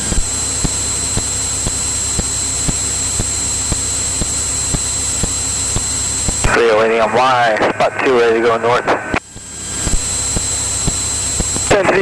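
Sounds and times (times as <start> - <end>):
aircraft engine and propeller drone: 0.0 - 12.0
high whine: 0.0 - 12.0.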